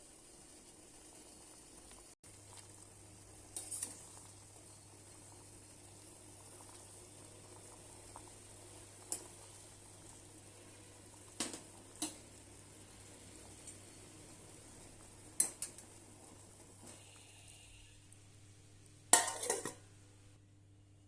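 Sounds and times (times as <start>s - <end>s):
pan sizzling and bubbling: 0.0s - 20.4s.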